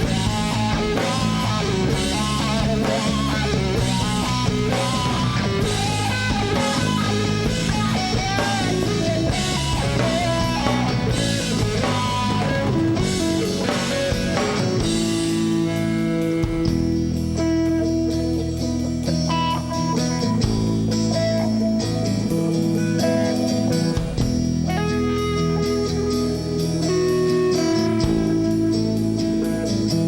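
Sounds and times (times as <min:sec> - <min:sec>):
bending guitar melody: 0:00.0 - 0:30.0
rock band playing: 0:00.0 - 0:30.0.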